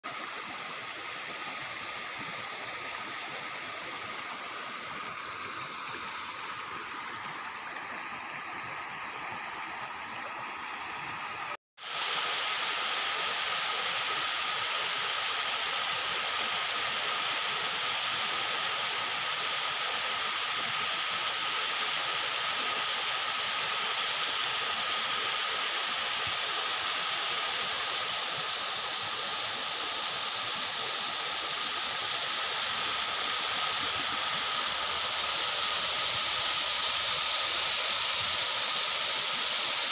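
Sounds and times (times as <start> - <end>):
shallow water flowing over stones: 0.0 - 39.9.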